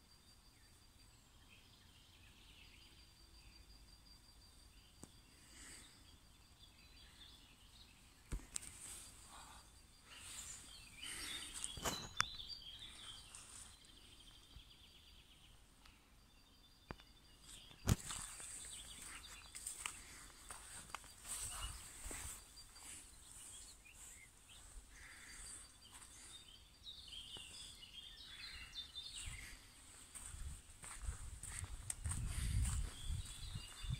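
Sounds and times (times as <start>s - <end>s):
birds chirping and singing: 5.8s - 33.9s.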